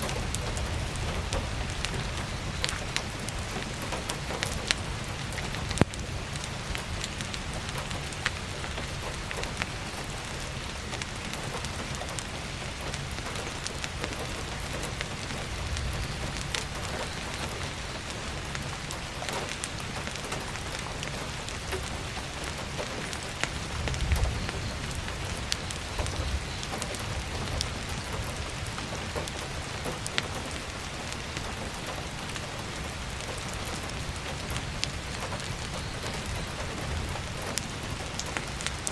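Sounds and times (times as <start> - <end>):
firewood crackling: 0.0 - 38.9
heavy rain falling: 0.0 - 38.9.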